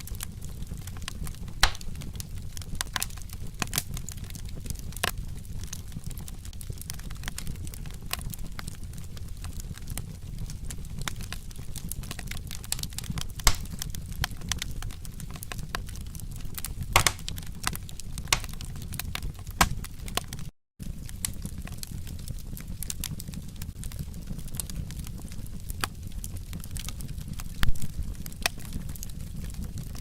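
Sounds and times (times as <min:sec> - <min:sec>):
low rumble of burning: 0:00.0 - 0:30.0
wood fire crackling and popping: 0:00.0 - 0:30.0.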